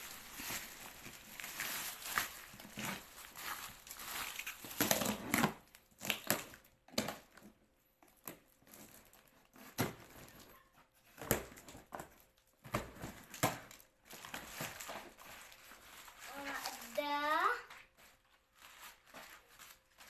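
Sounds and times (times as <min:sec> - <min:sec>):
packaging crinkling and tearing: 0:00.0 - 0:10.6, 0:11.2 - 0:20.0.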